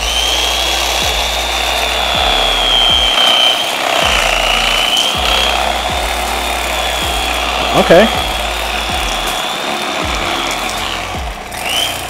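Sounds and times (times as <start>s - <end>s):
electric fillet knife whining: 0.0s - 12.0s.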